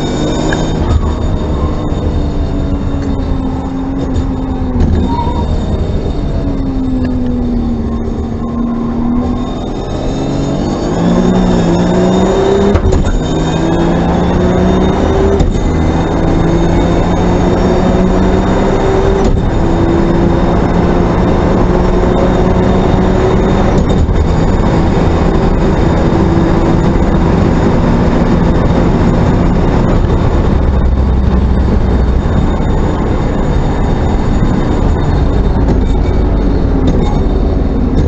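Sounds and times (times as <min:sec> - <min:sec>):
race car engine at full throttle: 0:00.0 - 0:38.0
wind and road noise: 0:00.0 - 0:38.0.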